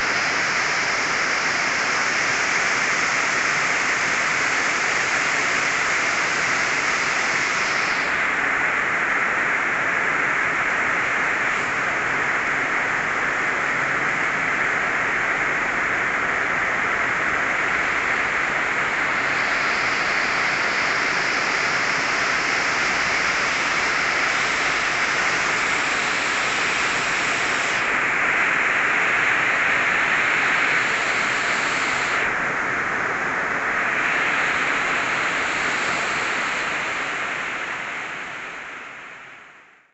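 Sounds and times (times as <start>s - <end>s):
heavy rain pouring: 0.0s - 39.1s.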